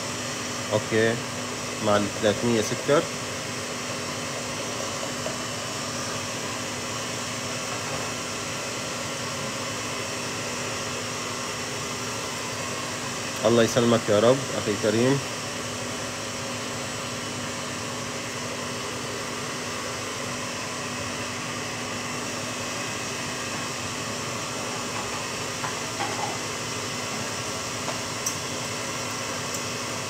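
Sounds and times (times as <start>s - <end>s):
stand mixer whirring: 0.0s - 30.0s.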